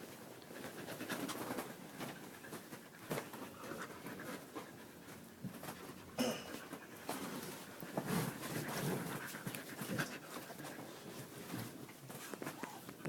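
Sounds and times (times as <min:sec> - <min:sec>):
rustling: 0:00.0 - 0:13.0
dog panting: 0:00.4 - 0:12.6.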